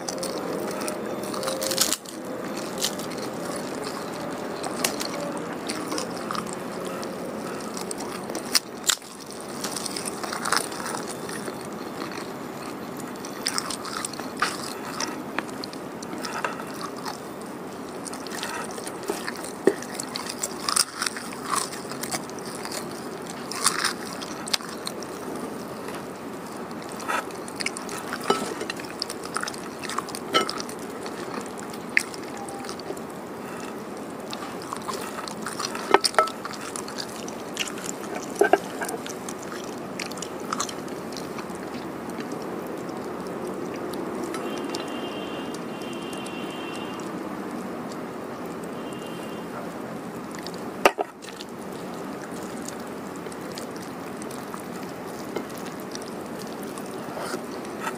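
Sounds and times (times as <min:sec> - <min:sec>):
chewing food: 0:00.0 - 0:57.9
small crunches: 0:00.0 - 0:57.9.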